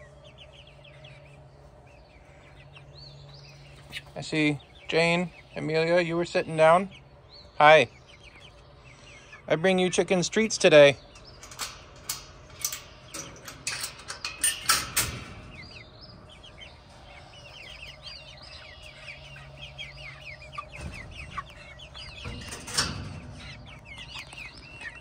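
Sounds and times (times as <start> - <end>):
hens clucking softly: 0.0 - 25.0.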